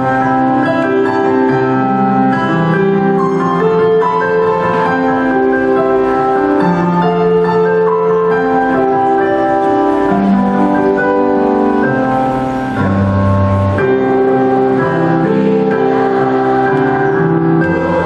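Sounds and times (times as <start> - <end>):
electronic keyboard chords: 0.0 - 18.0.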